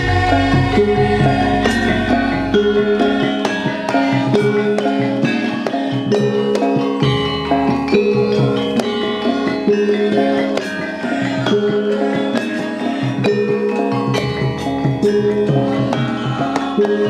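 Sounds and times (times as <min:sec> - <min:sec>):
hand drums: 0:00.0 - 0:17.0
ringing pitched percussion: 0:00.0 - 0:17.0.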